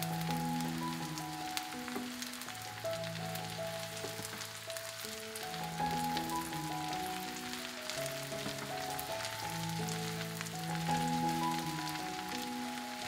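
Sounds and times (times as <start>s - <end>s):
soft background music: 0.0s - 13.0s
vegetables sizzling in hot oil: 0.0s - 13.0s.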